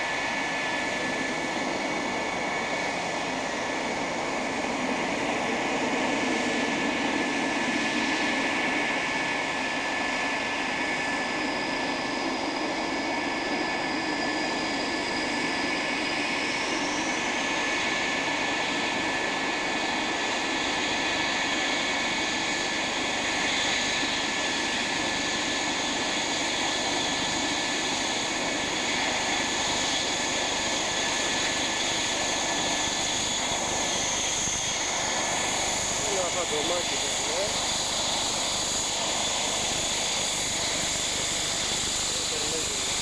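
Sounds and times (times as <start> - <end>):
jet engines whining: 0.0 - 43.0
jet roar: 0.0 - 43.0.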